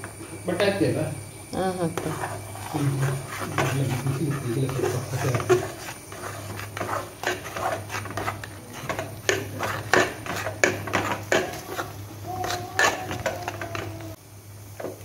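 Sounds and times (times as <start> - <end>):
spoon scraping a metal pot: 2.0 - 14.0.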